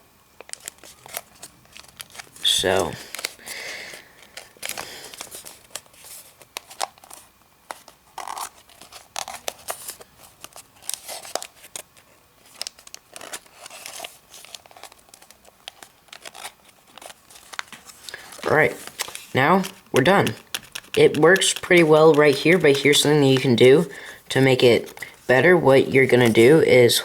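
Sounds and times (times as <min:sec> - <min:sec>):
paper creasing clicks: 0:00.4 - 0:27.0
paper rustling and crinkling: 0:00.4 - 0:27.0.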